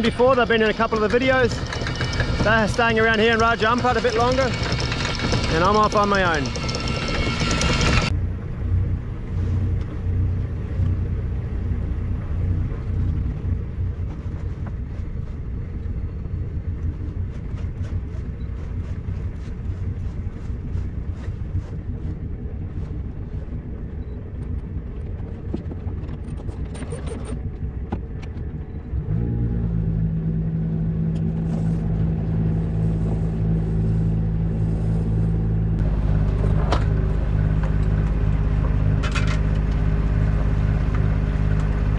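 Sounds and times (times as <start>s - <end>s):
boat engine humming: 0.0s - 41.9s
rough low rumble with crackles: 0.0s - 41.9s.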